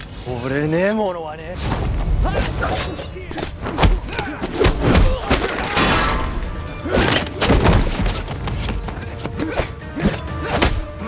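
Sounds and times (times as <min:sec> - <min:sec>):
action music score: 0:00.0 - 0:11.0.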